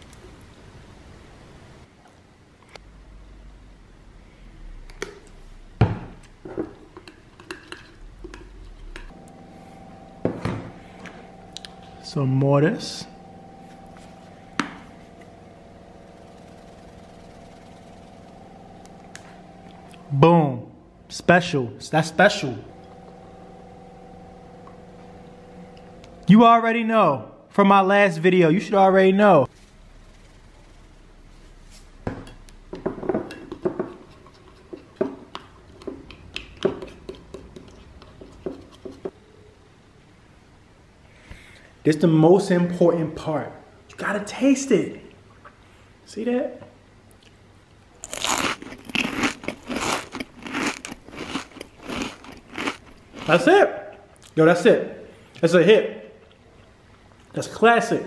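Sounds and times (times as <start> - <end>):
steady hum: 0.0 - 42.2, 46.8 - 55.4.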